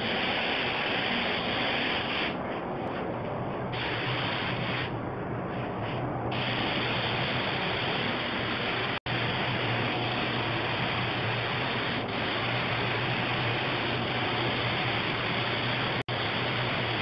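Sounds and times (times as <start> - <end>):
spray gun hissing: 0.0 - 2.4, 3.7 - 17.0
steady low hum: 0.0 - 17.0.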